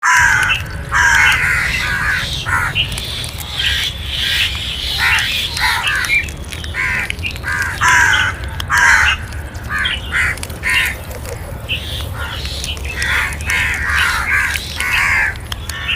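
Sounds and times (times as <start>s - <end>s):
crows cawing: 0.0s - 15.9s
steady low rumble: 0.0s - 15.9s.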